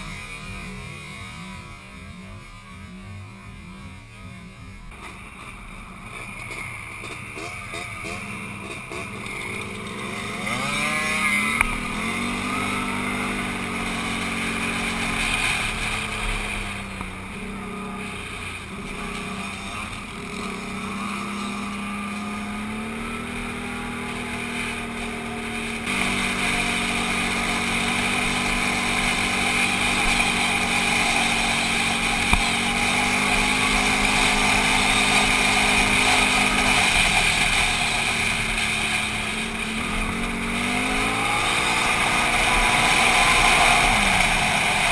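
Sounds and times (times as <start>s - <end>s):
atv engine running: 0.0s - 44.9s
wind and road noise hiss: 4.9s - 44.9s.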